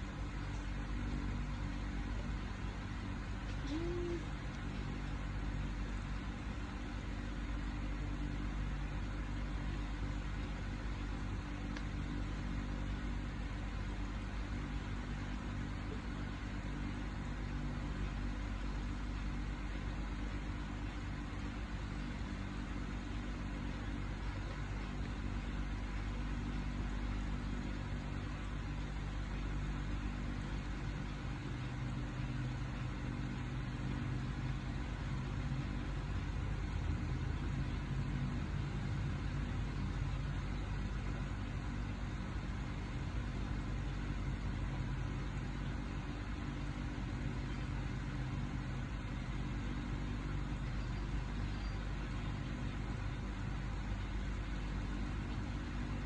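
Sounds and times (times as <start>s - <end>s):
electric fan motor hum: 0.0s - 56.0s.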